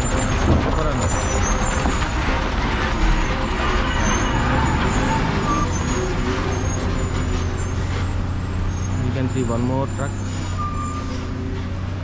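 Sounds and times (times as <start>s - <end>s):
lorry diesel engine running: 0.0s - 12.0s
road traffic: 0.0s - 12.0s.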